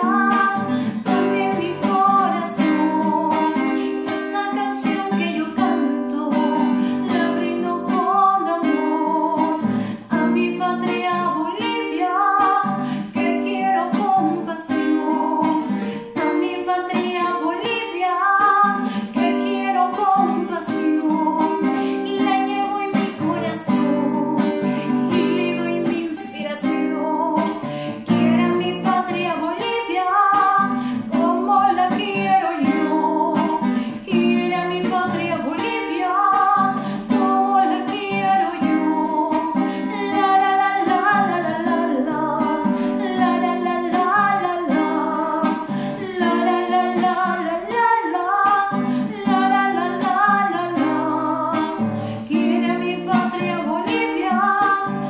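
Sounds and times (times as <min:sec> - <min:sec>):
classical guitar strumming: 0:00.0 - 0:55.0
woman singing: 0:00.0 - 0:55.0.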